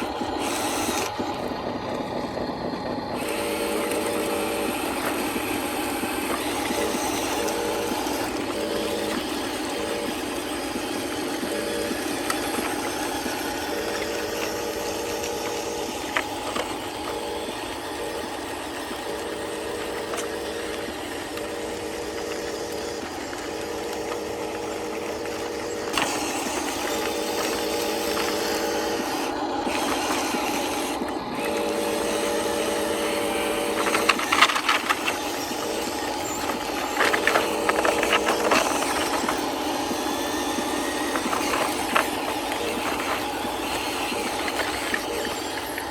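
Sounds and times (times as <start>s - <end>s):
small electric motors whining: 0.0s - 45.9s.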